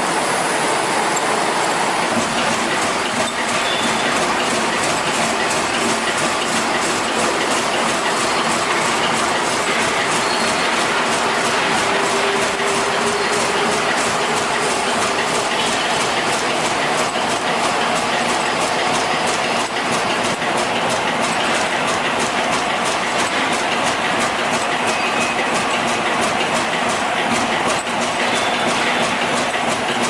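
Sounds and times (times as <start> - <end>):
metal-polishing machinery running: 0.0 - 30.0.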